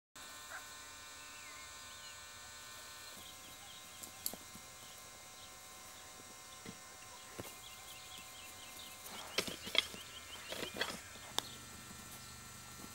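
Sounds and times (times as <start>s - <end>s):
distant bird chirps: 1.1s - 2.3s, 3.0s - 12.8s.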